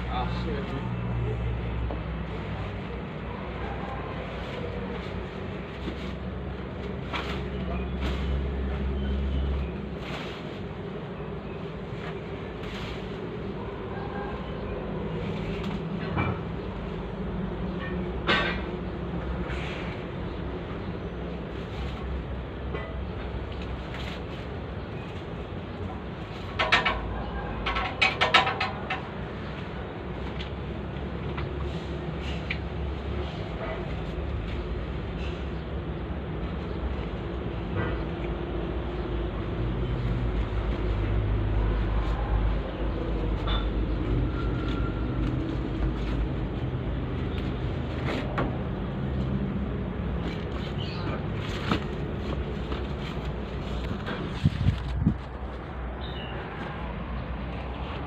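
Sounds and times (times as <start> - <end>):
excavator diesel engine rumbling: 0.0 - 58.0.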